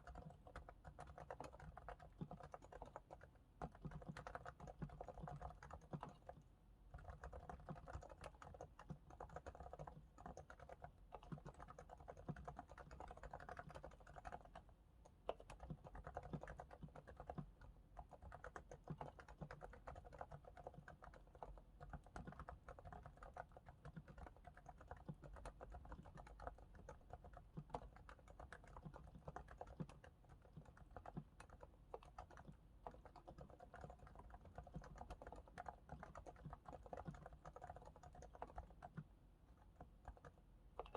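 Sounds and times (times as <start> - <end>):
quiet muted keyboard typing: 0.0 - 40.9.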